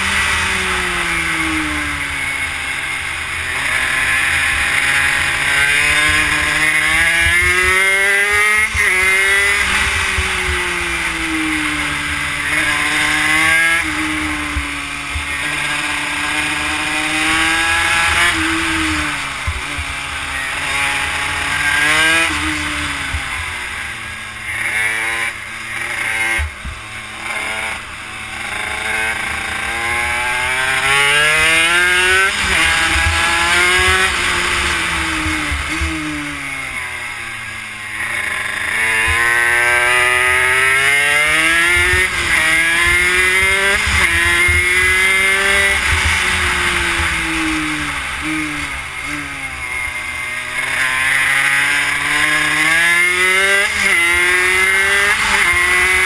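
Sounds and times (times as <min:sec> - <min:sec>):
two-stroke minibike engine revving: 0:00.0 - 0:56.0.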